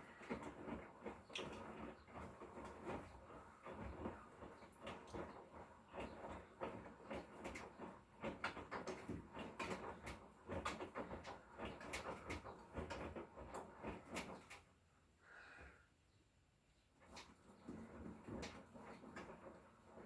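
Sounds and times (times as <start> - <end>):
laundry tumbling in washing machine: 0.0 - 15.0, 16.8 - 20.0
washing machine low rumble: 0.0 - 20.0.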